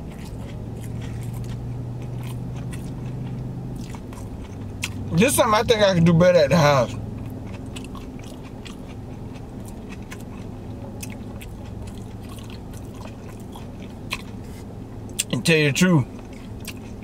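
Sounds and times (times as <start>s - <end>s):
closed-mouth chewing: 0.0s - 5.2s, 6.8s - 15.4s, 16.1s - 17.0s
low car cabin hum: 0.0s - 17.0s.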